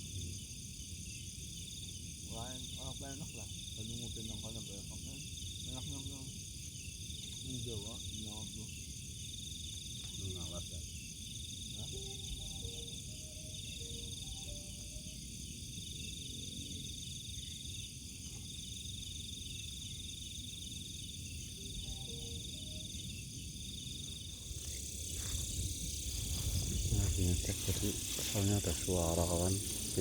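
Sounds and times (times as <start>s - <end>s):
crickets pulsing trill: 0.0s - 30.0s.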